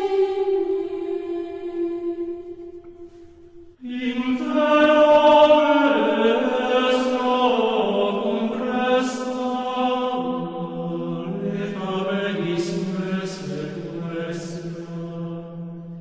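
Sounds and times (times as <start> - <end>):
slow sung chant: 0.0 - 16.0.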